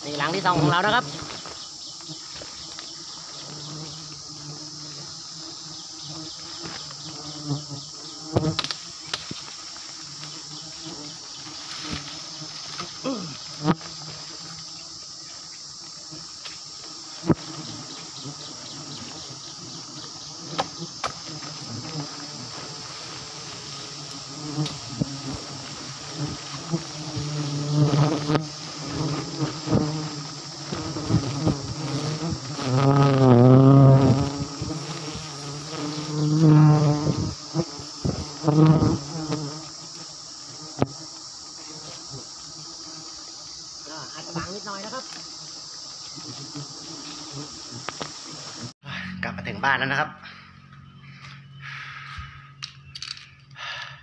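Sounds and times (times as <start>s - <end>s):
bees buzzing: 0.0s - 48.8s.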